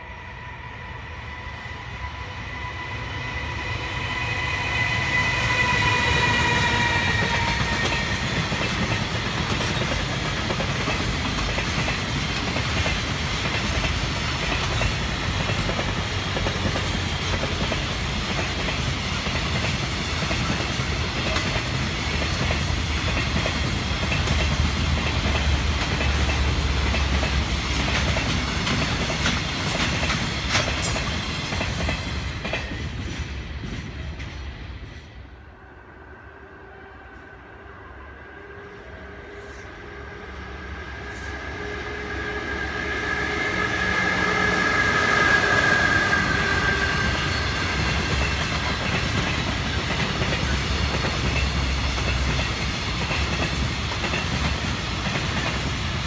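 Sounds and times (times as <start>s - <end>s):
locomotive whine: 0.0s - 18.8s, 19.6s - 56.0s.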